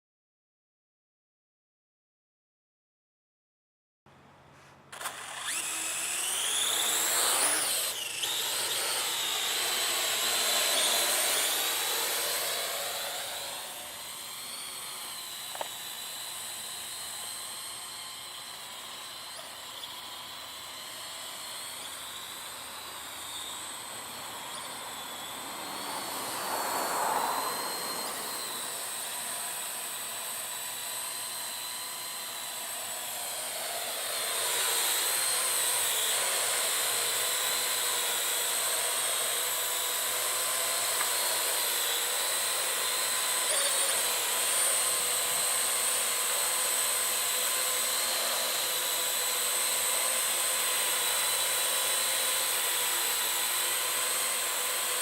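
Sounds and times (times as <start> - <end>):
quadcopter drone whine: 4.9 - 55.0.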